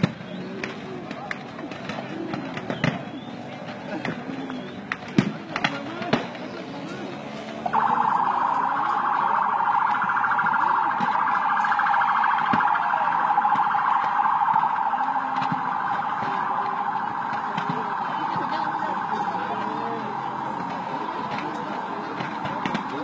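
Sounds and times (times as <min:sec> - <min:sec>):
faint distant voices: 0:00.0 - 0:23.0.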